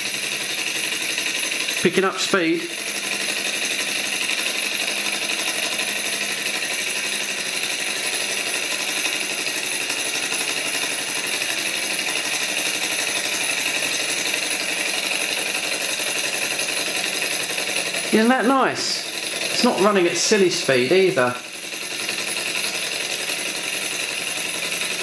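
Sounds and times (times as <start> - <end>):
stirling engine running: 0.0 - 25.0.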